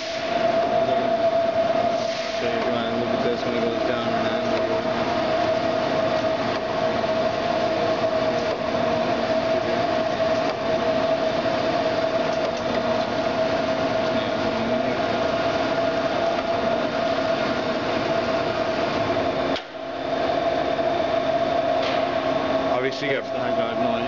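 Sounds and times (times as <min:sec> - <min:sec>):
grinder hum with constant whine: 0:00.0 - 0:24.0.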